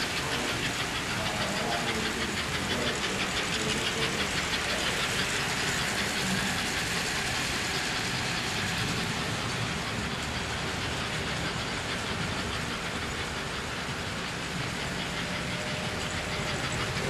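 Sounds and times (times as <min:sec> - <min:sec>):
model train motors whirring: 0:00.0 - 0:17.0
wheels clicking over track: 0:00.0 - 0:17.0.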